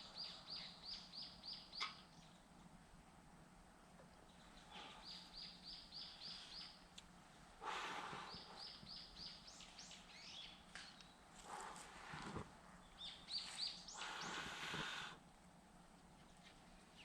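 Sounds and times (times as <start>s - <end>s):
faint bird song: 0.0s - 2.8s, 3.7s - 17.0s.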